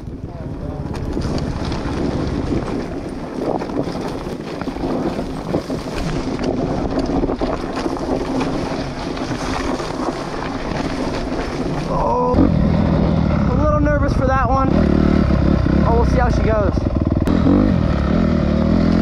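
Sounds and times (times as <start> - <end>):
wind buffeting microphone: 0.0 - 18.6
dirt bike engine running: 0.0 - 19.0.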